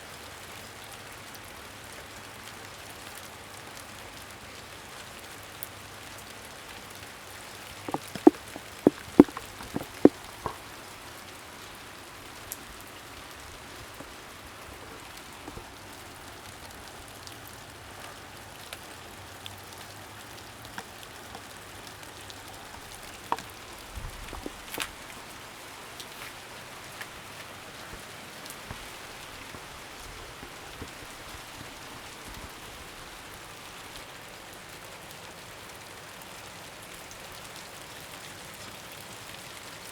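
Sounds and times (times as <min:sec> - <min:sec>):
steady rain hiss: 0:00.0 - 0:39.9
close raindrops tapping: 0:05.6 - 0:39.6.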